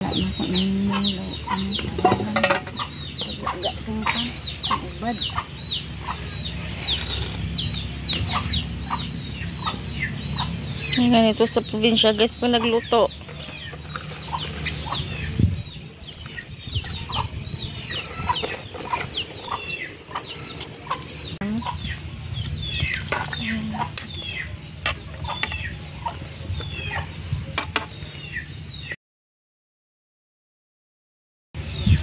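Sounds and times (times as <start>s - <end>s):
chickens peeping and clucking: 0.0s - 29.0s.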